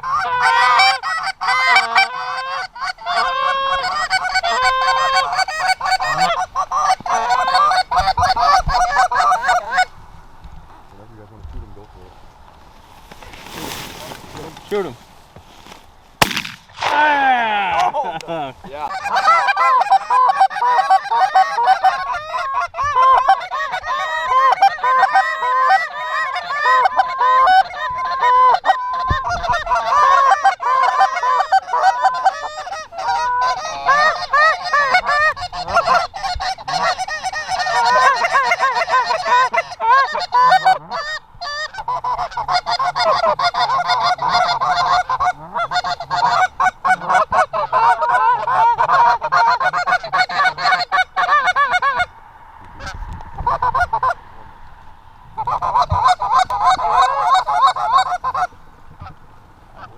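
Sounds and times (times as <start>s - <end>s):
geese honking: 0.0s - 10.0s, 18.9s - 59.9s.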